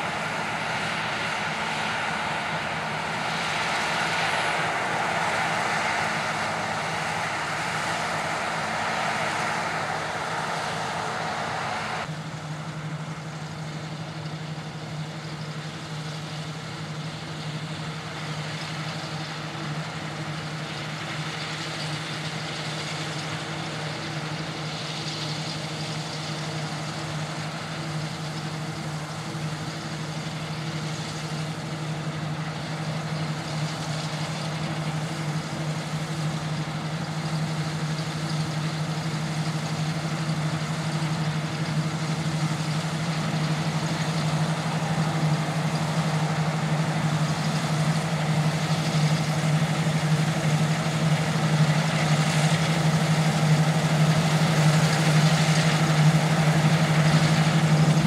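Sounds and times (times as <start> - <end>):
machinery noise: 0.0 - 12.5, 13.2 - 58.0
combine harvester engine hum: 0.0 - 58.0.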